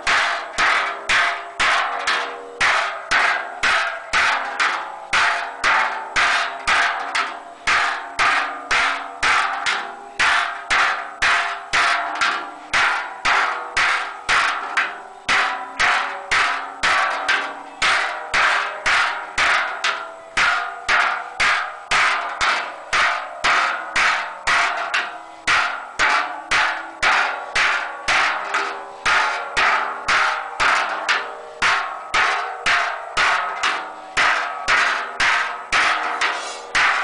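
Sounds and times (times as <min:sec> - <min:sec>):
hammer striking sheet metal: 0:00.0 - 0:37.0.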